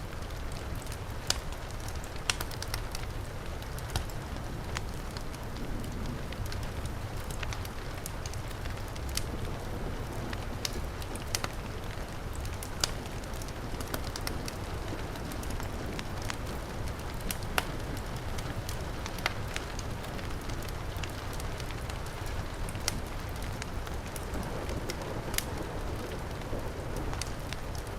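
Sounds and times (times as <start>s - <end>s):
wood fire crackling and popping: 0.1s - 27.9s.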